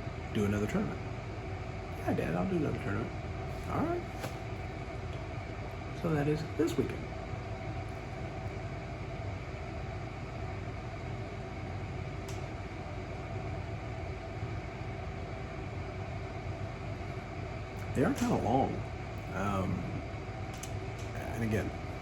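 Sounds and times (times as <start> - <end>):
low background rumble and hum: 0.0 - 22.0.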